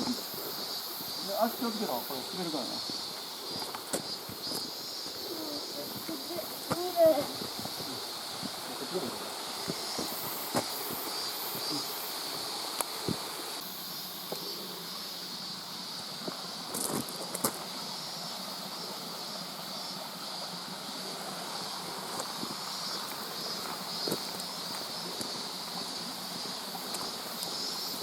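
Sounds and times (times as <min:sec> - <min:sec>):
water rushing over rocks: 0:00.0 - 0:13.6, 0:14.2 - 0:28.0.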